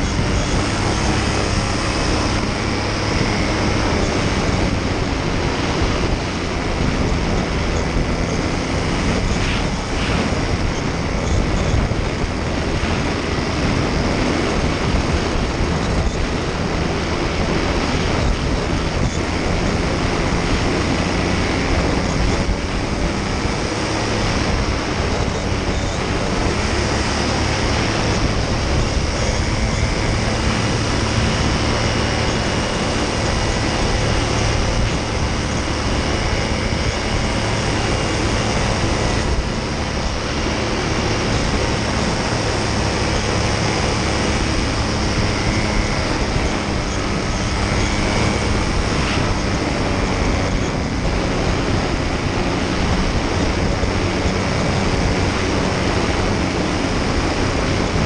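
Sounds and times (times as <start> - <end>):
paramotor engine droning: 0.0 - 58.0
wind rushing: 0.0 - 58.0.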